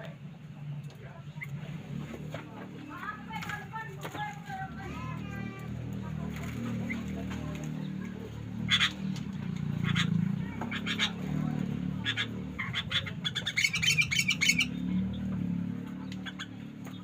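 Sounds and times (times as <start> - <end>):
bulbuls chirping: 0.0 - 17.0.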